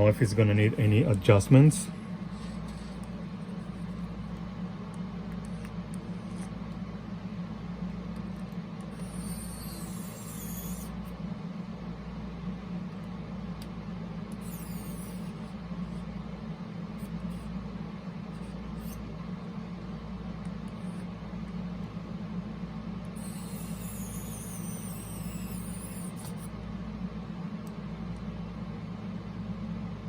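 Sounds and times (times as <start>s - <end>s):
cassette motor humming: 0.0s - 30.0s.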